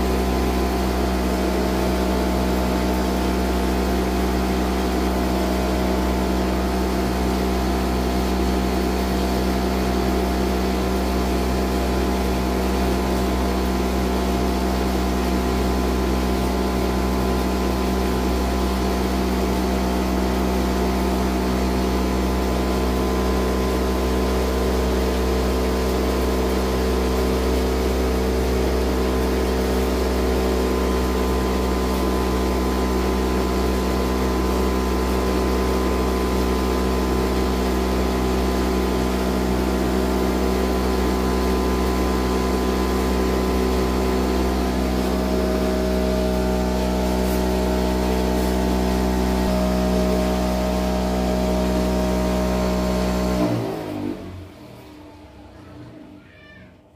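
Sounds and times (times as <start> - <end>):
cotton candy machine humming: 0.0 - 56.9.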